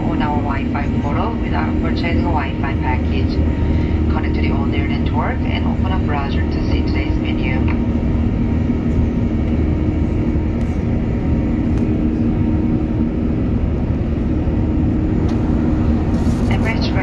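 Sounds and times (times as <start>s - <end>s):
airplane cabin engine rush: 0.0s - 17.0s
constant hum: 0.0s - 17.0s.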